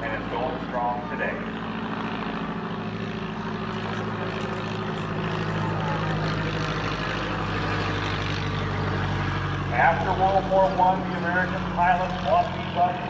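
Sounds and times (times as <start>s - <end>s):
biplane engine drone overhead: 0.0s - 13.0s.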